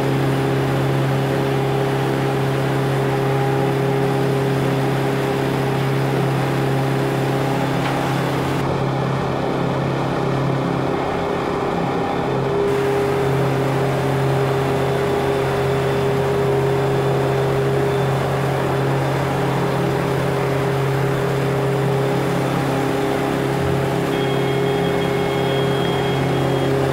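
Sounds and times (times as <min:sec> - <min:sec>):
boat engine droning: 0:00.0 - 0:26.9.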